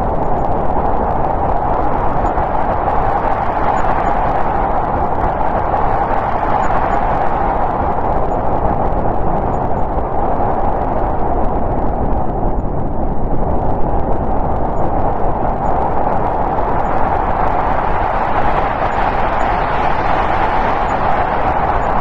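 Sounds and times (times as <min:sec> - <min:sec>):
howling storm wind: 0:00.0 - 0:22.0.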